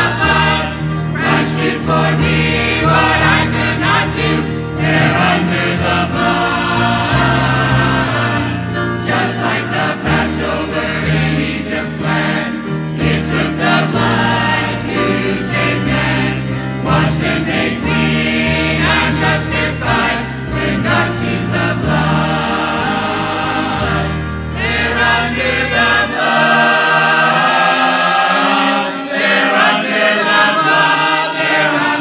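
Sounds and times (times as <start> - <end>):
choir singing a gospel hymn: 0.0 - 32.0.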